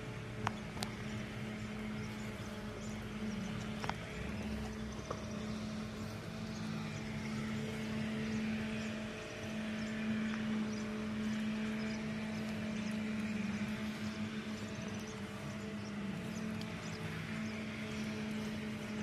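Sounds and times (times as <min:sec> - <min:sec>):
distant engine drone: 0:00.0 - 0:19.0
lower engine tone: 0:00.0 - 0:19.0.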